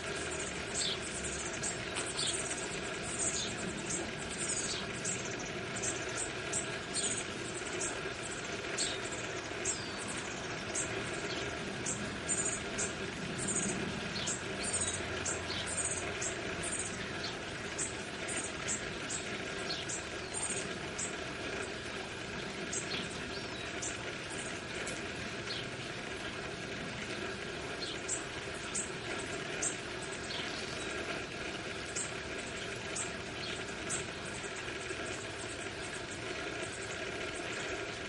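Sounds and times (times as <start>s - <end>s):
birds chirping high and thin: 0.0s - 38.0s
steady low background hum: 0.0s - 38.0s.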